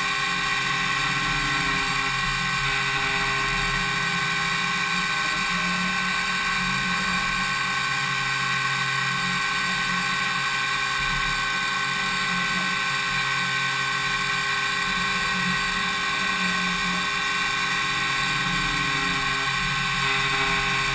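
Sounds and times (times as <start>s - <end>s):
milling machine spindle whine: 0.0s - 20.9s.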